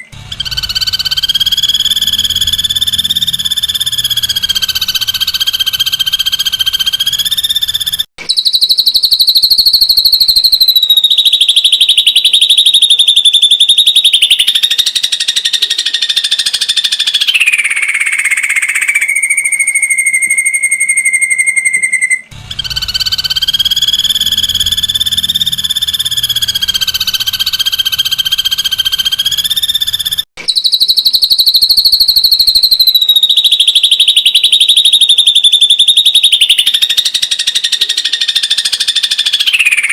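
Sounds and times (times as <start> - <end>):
bird high-pitched rapid trill: 0.0 - 39.9.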